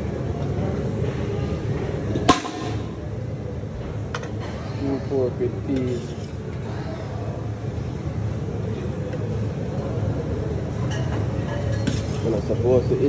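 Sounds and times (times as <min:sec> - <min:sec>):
low room noise rumble: 0:00.0 - 0:13.0.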